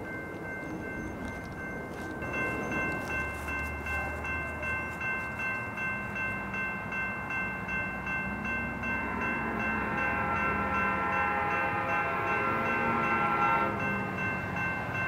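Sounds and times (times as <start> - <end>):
crossing bell dinging rapidly: 0.0 - 15.0
low rumble of train: 0.0 - 15.0.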